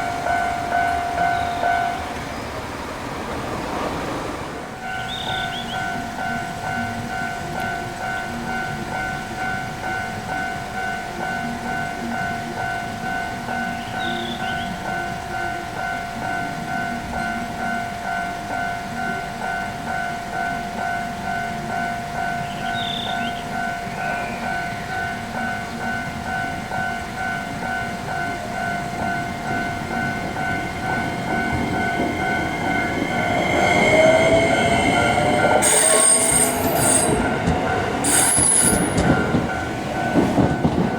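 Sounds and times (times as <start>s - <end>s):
level-crossing warning bell: 0.0s - 3.2s, 4.6s - 40.9s
train rumble: 0.0s - 40.9s.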